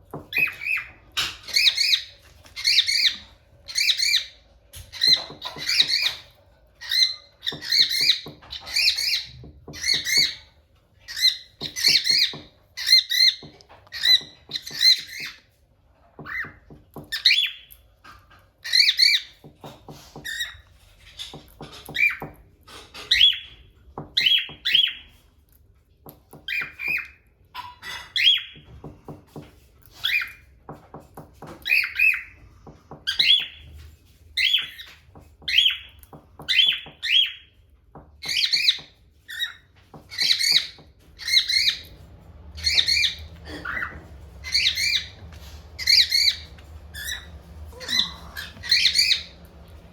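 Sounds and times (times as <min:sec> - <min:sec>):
cockatiels chirping and squawking: 0:00.1 - 0:15.5, 0:16.1 - 0:25.3, 0:26.3 - 0:28.8, 0:29.9 - 0:30.7, 0:31.4 - 0:32.4, 0:33.0 - 0:37.6, 0:38.2 - 0:49.9.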